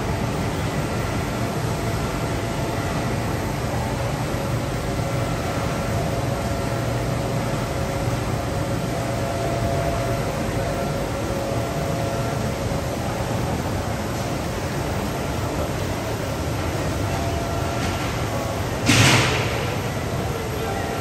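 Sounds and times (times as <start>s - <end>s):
faint steady whining tones: 0.0s - 21.0s
label machine humming: 0.0s - 21.0s.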